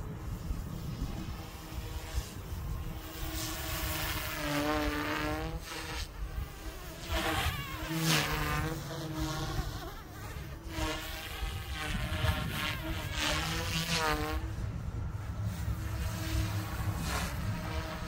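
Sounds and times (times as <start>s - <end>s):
rc helicopter buzzing whine: 0.0s - 18.0s
wind rumble on microphone: 0.0s - 18.0s.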